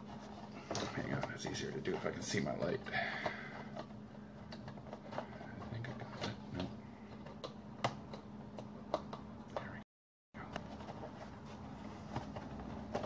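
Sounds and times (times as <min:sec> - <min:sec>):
faint steady hum: 0:00.0 - 0:09.8, 0:10.4 - 0:13.0.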